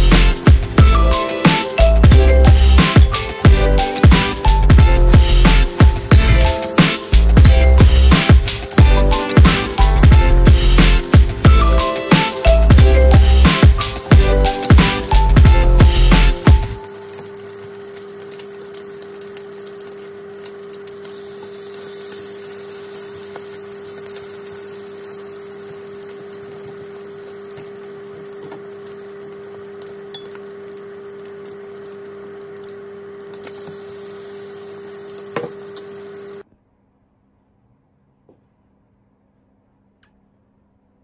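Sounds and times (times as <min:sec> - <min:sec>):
bread sizzling in butter: 0:00.0 - 0:36.4.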